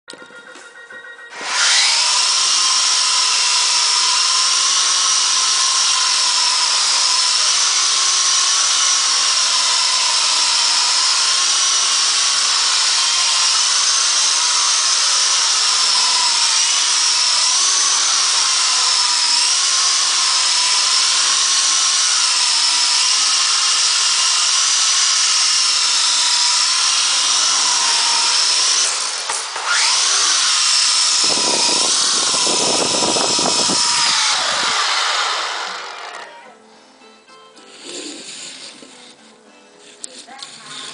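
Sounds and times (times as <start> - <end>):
toy helicopter motor whine: 1.3 - 36.4, 37.7 - 39.2, 40.0 - 40.9.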